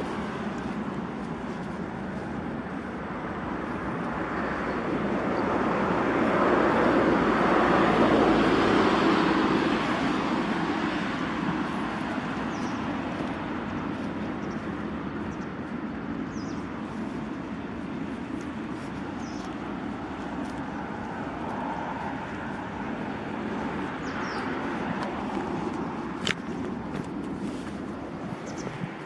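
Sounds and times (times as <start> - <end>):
road vehicle passing by: 0.0 - 29.0.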